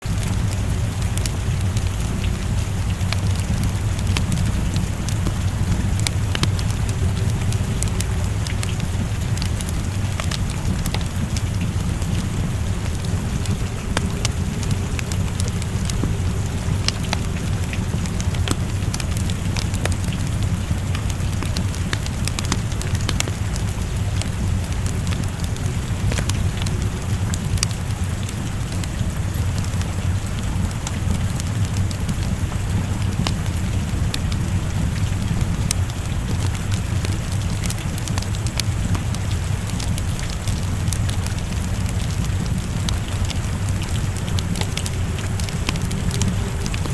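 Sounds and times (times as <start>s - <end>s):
rain: 0.0s - 46.9s
wood fire crackling and popping: 0.1s - 46.9s.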